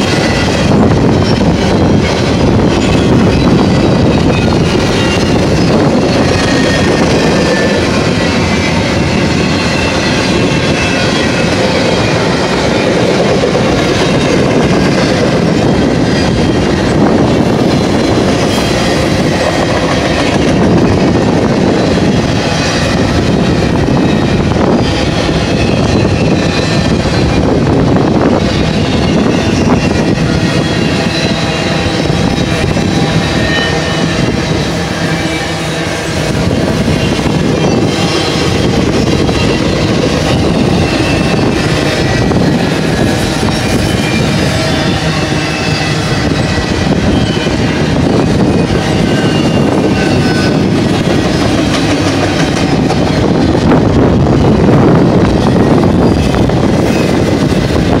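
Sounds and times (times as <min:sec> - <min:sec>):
rumble of steel wheels on rail: 0:00.0 - 0:58.0
high wheel squeals: 0:00.1 - 0:27.6, 0:28.2 - 0:53.4.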